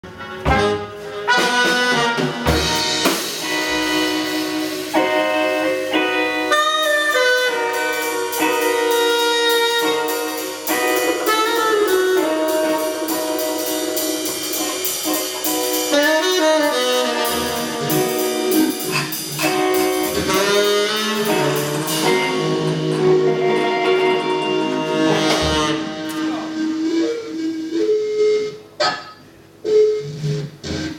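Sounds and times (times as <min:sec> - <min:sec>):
melodic jazz lead line: 0:00.0 - 0:30.9
drum kit hits: 0:00.1 - 0:27.0.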